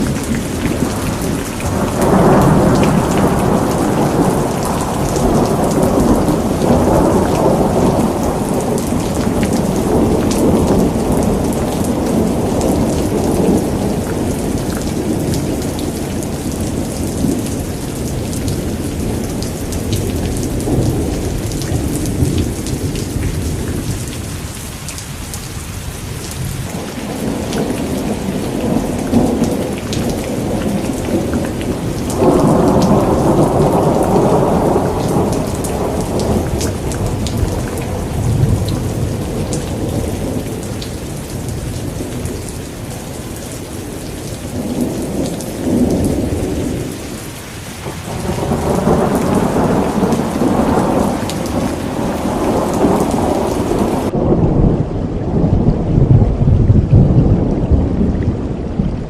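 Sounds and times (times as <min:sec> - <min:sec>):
rolling thunder: 0:00.0 - 0:24.6, 0:26.2 - 0:59.0
heavy rain pattering: 0:00.0 - 0:59.0.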